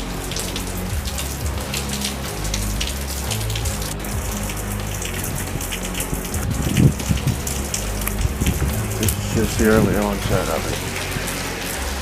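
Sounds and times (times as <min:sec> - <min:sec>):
background music: 0:00.0 - 0:12.0
heavy rain falling: 0:00.0 - 0:12.0.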